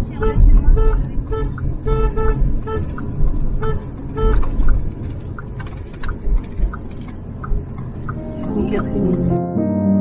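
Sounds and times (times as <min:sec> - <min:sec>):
car engine and road rumble: 0:00.0 - 0:09.6.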